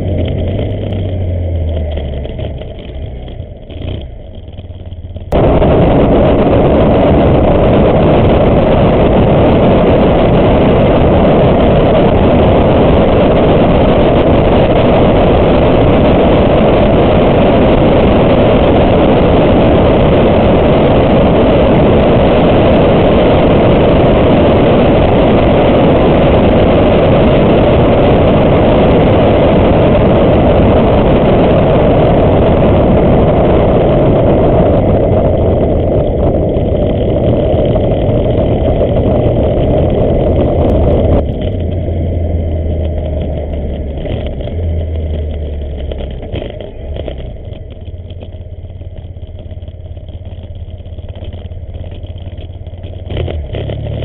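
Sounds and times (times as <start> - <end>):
motorcycle engine: 0.0 - 54.0
riding wind rush: 0.0 - 54.0.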